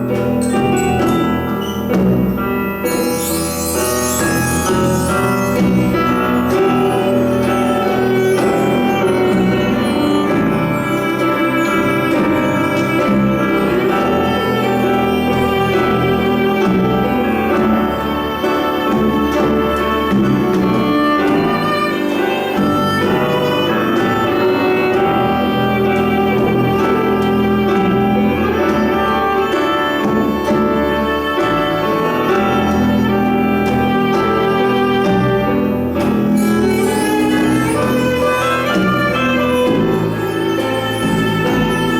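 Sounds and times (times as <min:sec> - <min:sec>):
cello: 0:00.0 - 0:41.9
violin: 0:00.0 - 0:41.9.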